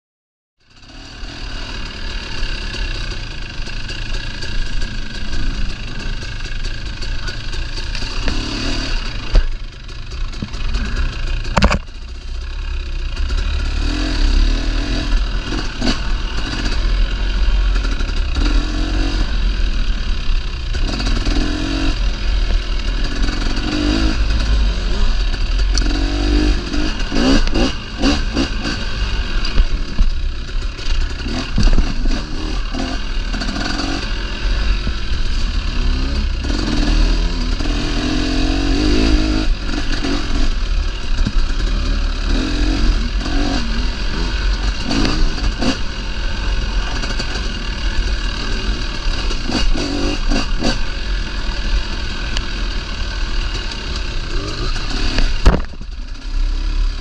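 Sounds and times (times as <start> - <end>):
dirt bike engine revving: 0.6 - 57.0.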